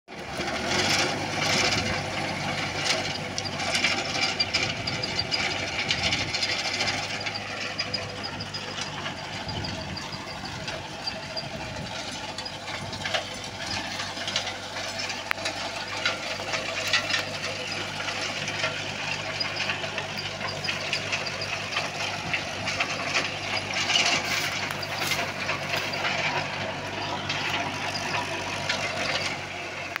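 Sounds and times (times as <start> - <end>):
tractor diesel engine: 0.0 - 30.0
rotavator rattling soil: 0.1 - 30.0.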